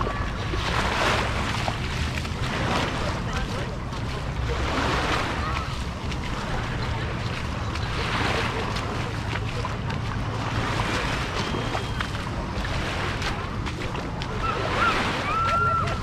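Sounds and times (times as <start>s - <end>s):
faint distant voices: 0.0s - 16.0s
surf on the shore: 0.0s - 16.0s.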